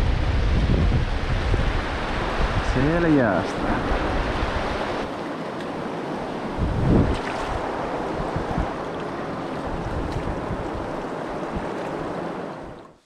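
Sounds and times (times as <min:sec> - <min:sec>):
wind on microphone: 0:00.0 - 0:12.9
river water rushing: 0:00.0 - 0:13.0.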